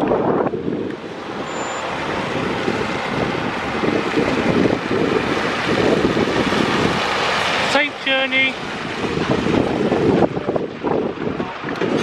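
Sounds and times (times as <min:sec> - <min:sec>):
road vehicle motor and tyre noise: 0:00.0 - 0:12.0
wind buffeting microphone: 0:00.0 - 0:12.0.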